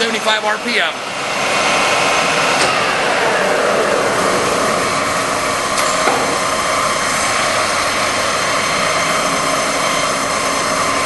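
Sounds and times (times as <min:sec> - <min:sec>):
lathe running: 0:00.0 - 0:11.0.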